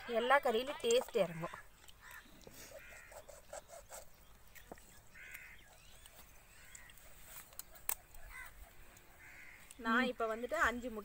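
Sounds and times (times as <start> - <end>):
faint bird calls: 1.0 - 10.4.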